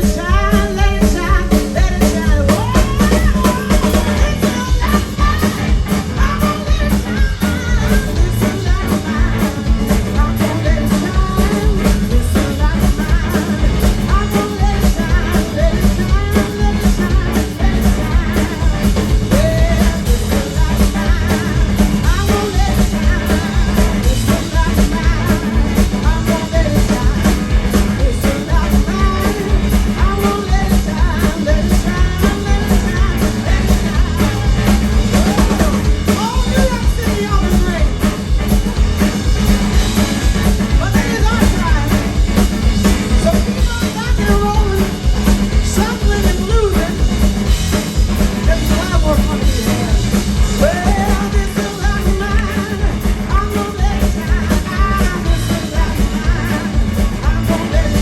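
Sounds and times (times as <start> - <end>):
live blues band playing: 0.0 - 58.0.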